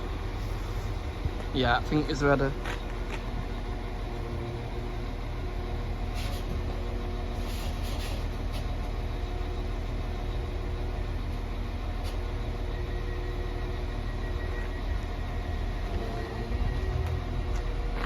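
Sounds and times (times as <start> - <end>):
train diesel engines running: 0.0 - 18.0.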